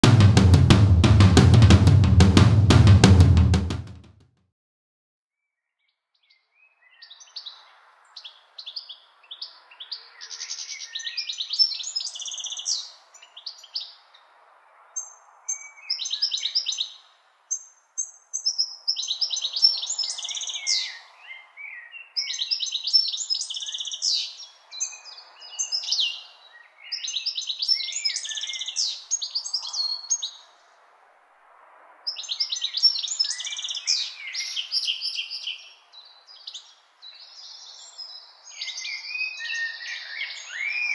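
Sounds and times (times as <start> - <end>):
songbird trills and chirps: 5.5 - 14.1, 15.0 - 30.5, 32.1 - 40.9.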